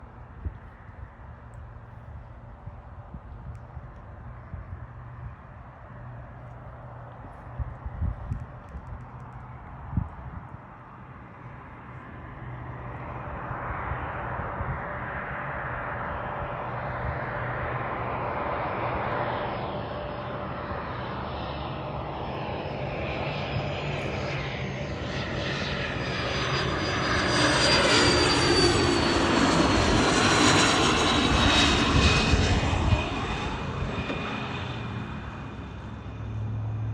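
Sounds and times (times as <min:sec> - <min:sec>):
jet passing with high whine: 0:00.0 - 0:36.9.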